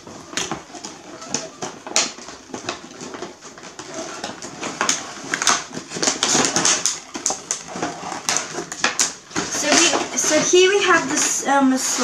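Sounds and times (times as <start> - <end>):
cardboard box being opened: 0.0 - 11.1.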